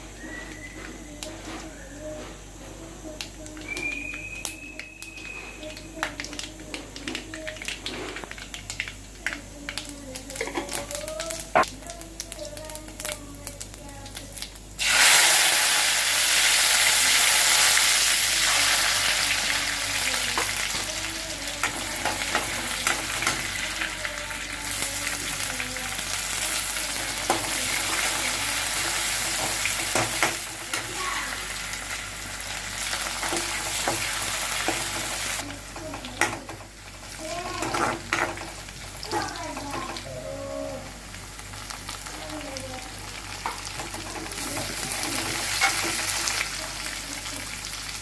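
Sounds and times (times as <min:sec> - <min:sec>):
food sizzling in hot oil: 0:03.1 - 0:40.2, 0:40.8 - 0:48.0.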